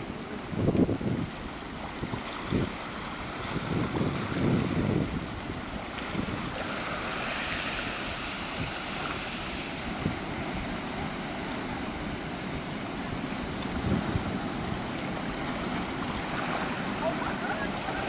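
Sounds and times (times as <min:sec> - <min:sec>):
waves breaking on rocky shore: 0:00.0 - 0:18.0.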